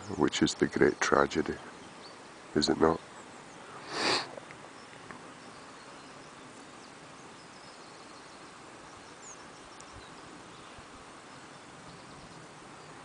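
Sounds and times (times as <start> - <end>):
faint bird chirps: 0.0 - 13.0
low outdoor hiss: 0.0 - 13.0.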